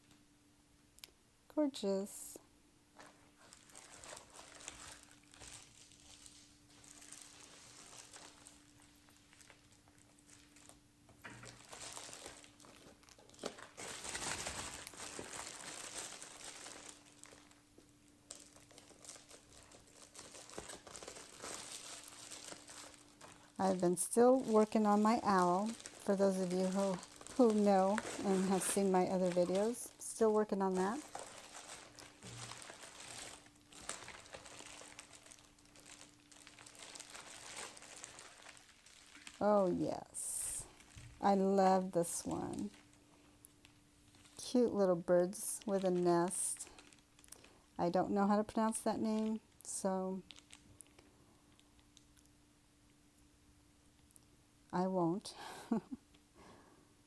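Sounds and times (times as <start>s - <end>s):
packaging crinkling and rustling: 2.9s - 52.3s.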